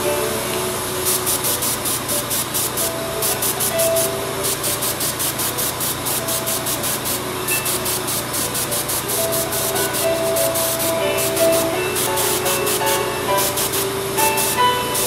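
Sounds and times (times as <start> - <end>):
airbrush hissing: 0.0 - 15.0
classical piano music: 0.0 - 15.0.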